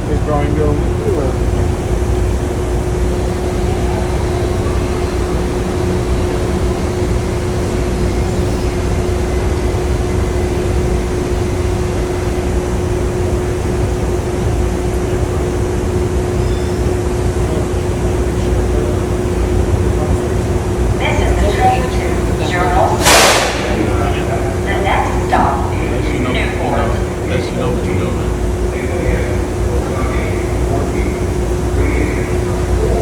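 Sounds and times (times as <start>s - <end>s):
steady humming tone: 0.0s - 33.0s
train low rumble: 0.0s - 33.0s.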